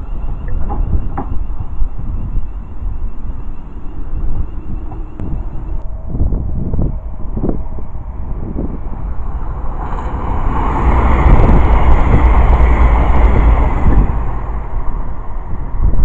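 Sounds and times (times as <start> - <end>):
diesel train passing: 0.0 - 16.0
high whine: 0.0 - 16.0
wind buffeting microphone: 0.0 - 16.0.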